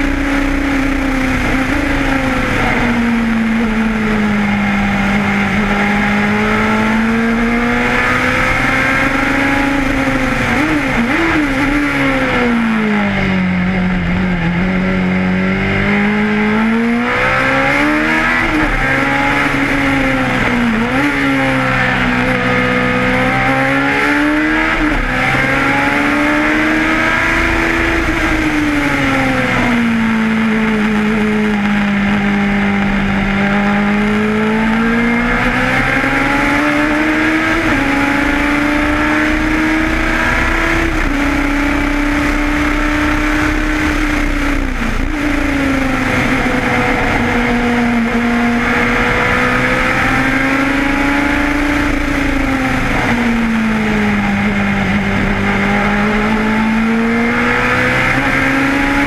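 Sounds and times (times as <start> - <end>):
racing car engine: 0.0 - 59.0.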